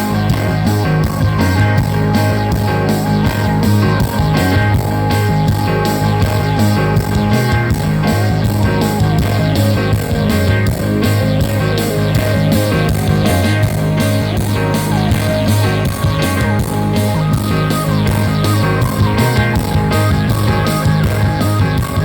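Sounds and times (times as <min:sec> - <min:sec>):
rock music with heavy bass: 0:00.0 - 0:22.0.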